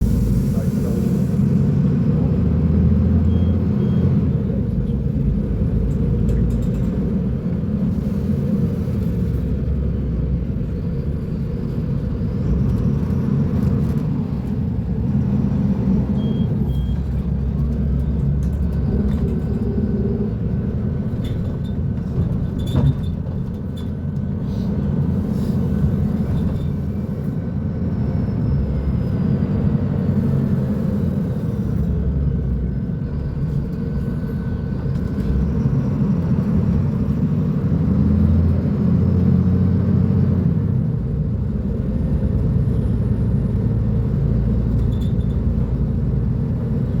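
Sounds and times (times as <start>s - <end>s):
bus diesel engine drone: 0.0s - 47.0s.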